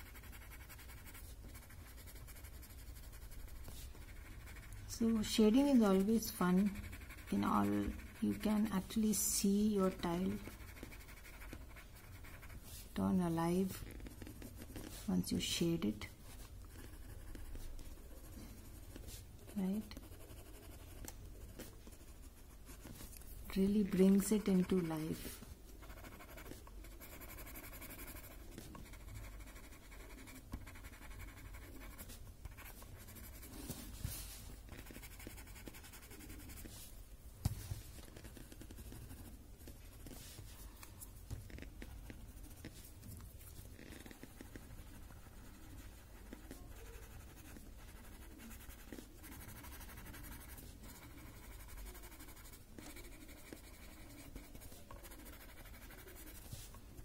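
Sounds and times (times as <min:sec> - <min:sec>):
pencil scratching on paper: 0:00.0 - 0:36.9, 0:37.8 - 0:57.0.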